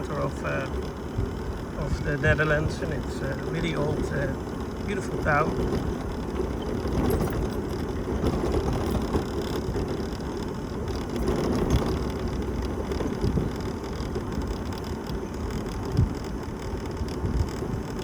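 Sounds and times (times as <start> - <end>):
mobility scooter rumbling: 0.0 - 18.0.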